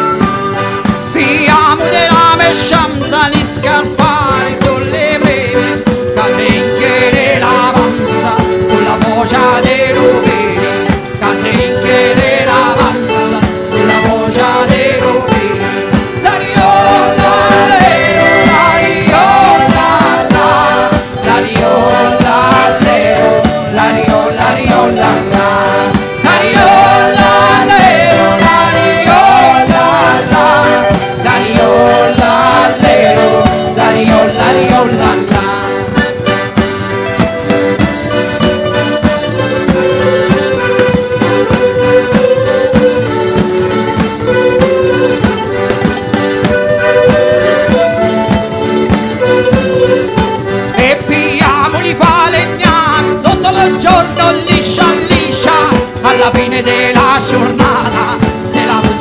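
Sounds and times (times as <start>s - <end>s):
accordion melody: 0.0s - 59.0s
flute melody: 0.0s - 59.0s
jingling percussion: 0.0s - 59.0s
people singing: 0.0s - 59.0s.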